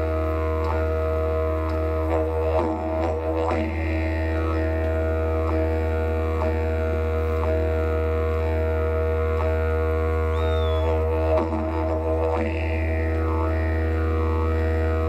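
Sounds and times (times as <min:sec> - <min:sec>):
didgeridoo drone: 0:00.0 - 0:15.0.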